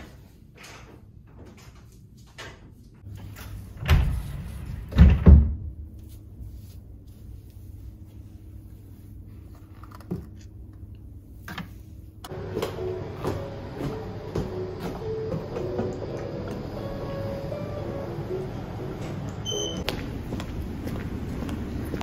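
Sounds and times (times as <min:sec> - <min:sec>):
low steady hum: 0:03.1 - 0:22.0.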